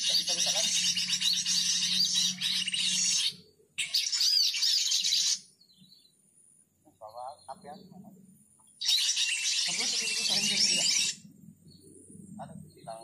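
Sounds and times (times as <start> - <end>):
small birds chattering and chirping: 0.0 - 13.0.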